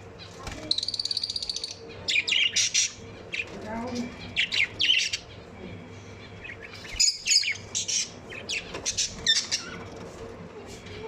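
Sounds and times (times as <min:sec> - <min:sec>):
lovebirds chirping: 0:00.1 - 0:09.9.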